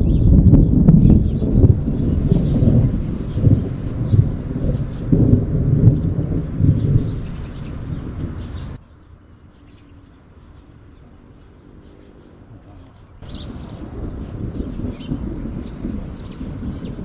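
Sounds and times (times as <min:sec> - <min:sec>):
birds chirping: 0:00.0 - 0:17.0
low rumbling outdoor noise: 0:00.0 - 0:17.0.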